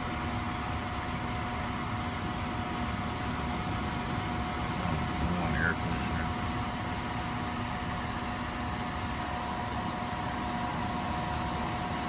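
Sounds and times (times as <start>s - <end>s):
air conditioner fan blowing: 0.0s - 12.0s.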